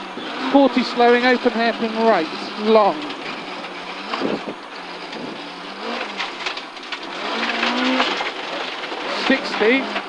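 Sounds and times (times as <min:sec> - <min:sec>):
gravel clicking under car: 0:00.0 - 0:10.0
rally car engine: 0:00.0 - 0:10.0.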